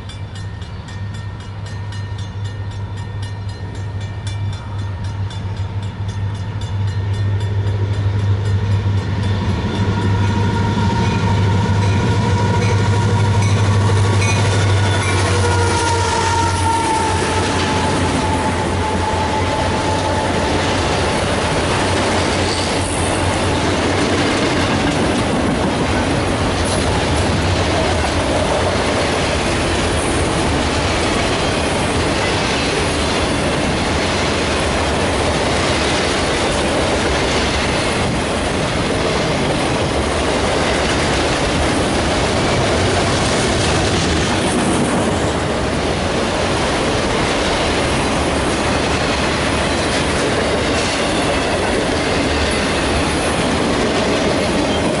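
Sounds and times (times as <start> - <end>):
steel train wheels on rails: 0.0 - 55.0.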